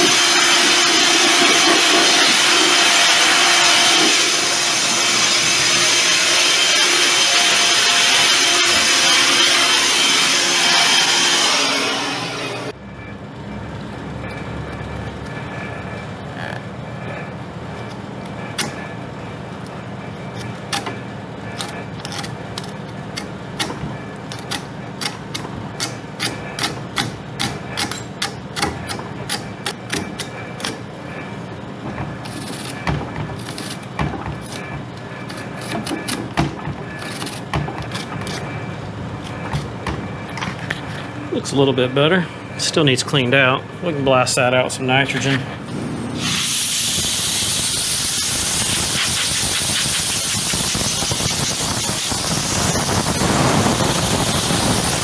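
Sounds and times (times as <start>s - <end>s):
condensing unit low hum: 0.0s - 55.0s.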